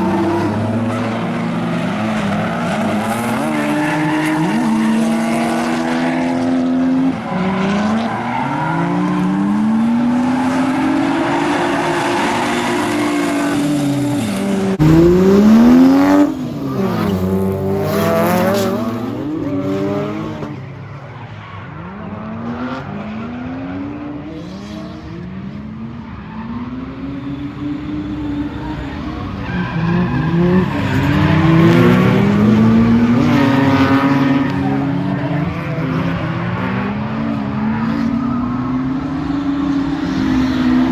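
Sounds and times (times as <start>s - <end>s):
car engine revving: 0.0s - 20.6s, 27.5s - 40.9s.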